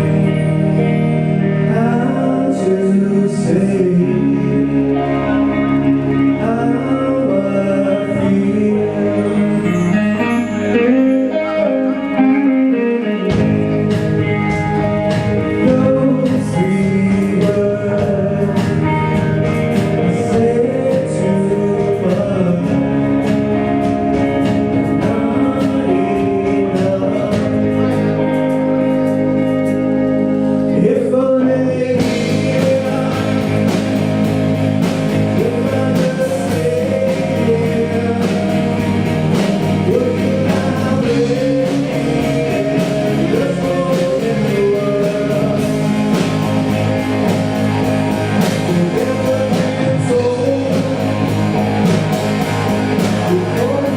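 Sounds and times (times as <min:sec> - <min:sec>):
low bass: 0:00.0 - 0:53.9
person singing over guitar: 0:00.0 - 0:53.9.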